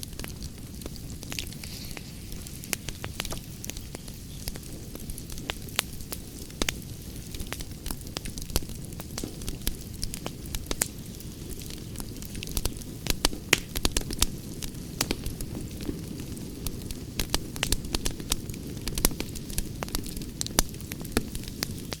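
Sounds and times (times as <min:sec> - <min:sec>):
burning wood crackling and popping: 0:00.0 - 0:22.0
campfire rumbling: 0:00.0 - 0:22.0.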